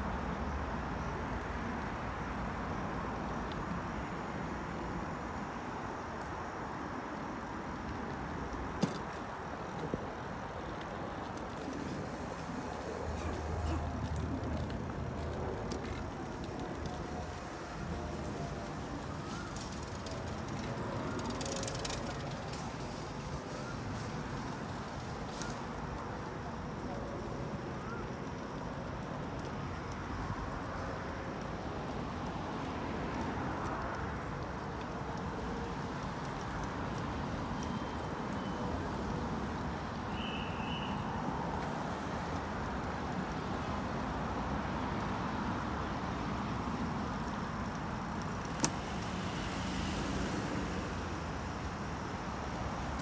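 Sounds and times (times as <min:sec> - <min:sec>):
bicycle riding rumble: 0:00.0 - 0:53.0
road traffic: 0:00.0 - 0:53.0.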